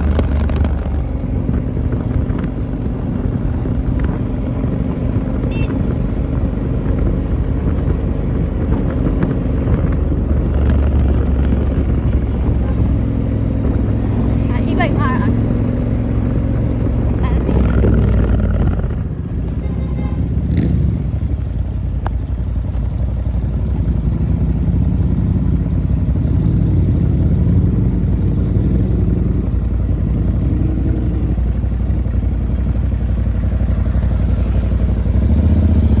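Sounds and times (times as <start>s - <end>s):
motorcycle engine rumbling: 0.0s - 36.0s.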